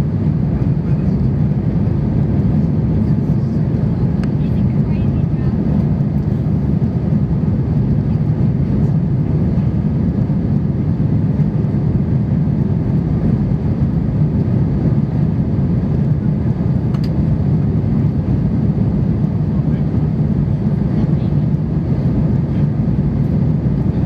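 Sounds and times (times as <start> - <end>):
jet engines and airflow drone: 0.0 - 24.0.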